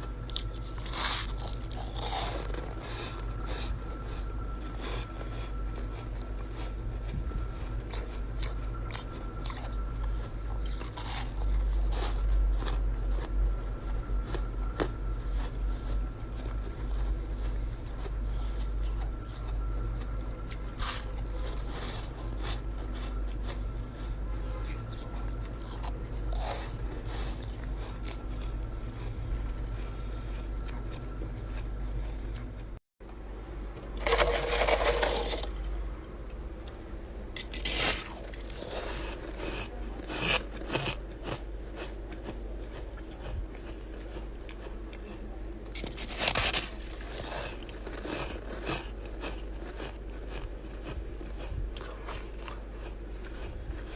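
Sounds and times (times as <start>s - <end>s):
ice being chewed crunching: 0.0s - 32.8s, 33.8s - 53.9s
steady low hum: 0.0s - 53.9s.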